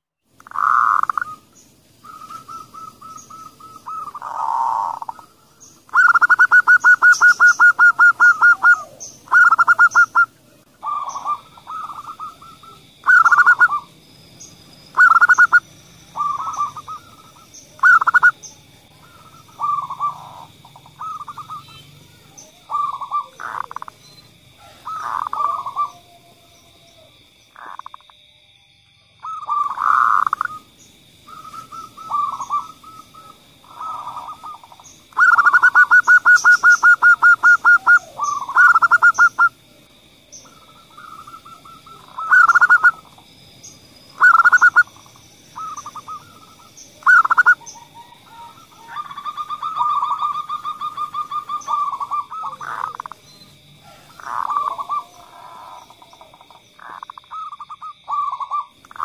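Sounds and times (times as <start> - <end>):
fast rattling bird call: 0.4 - 13.9, 14.9 - 15.6, 16.2 - 18.4, 19.1 - 22.0, 22.7 - 24.0, 24.6 - 26.0, 29.2 - 30.7, 31.3 - 39.5, 40.4 - 43.2, 44.2 - 53.2, 53.9 - 59.0
doves cooing: 0.4 - 28.0, 29.2 - 59.0.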